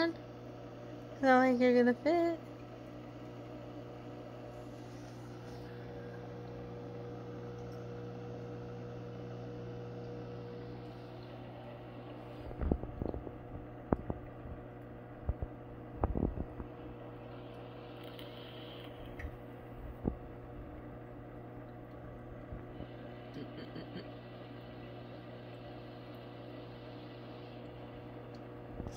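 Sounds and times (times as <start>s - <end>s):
low hum of aquarium equipment: 0.0s - 28.9s.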